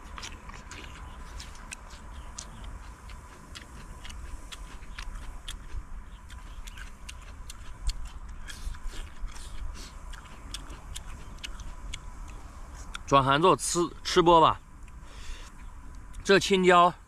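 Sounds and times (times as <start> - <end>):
crunchy chewing: 0.0 - 16.4.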